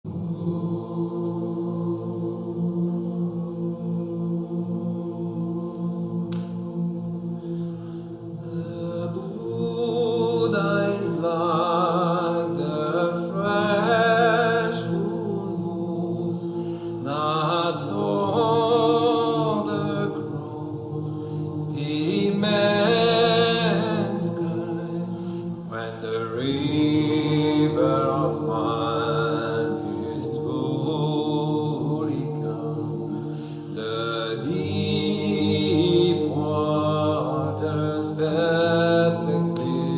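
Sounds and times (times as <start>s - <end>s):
chanted singing: 0.0s - 39.9s
steady low drone: 0.0s - 39.9s.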